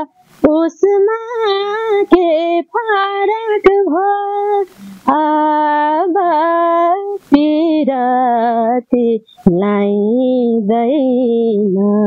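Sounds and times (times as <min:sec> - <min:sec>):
woman singing folk song: 0:00.0 - 0:12.0.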